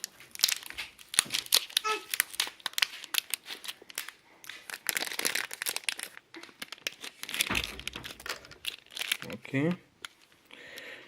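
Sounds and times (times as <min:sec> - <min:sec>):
packaging crinkling: 0:00.0 - 0:10.4.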